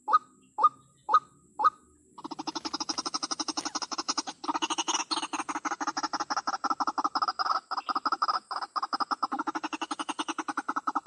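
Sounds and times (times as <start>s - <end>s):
waterhen calling: 0.0s - 11.0s.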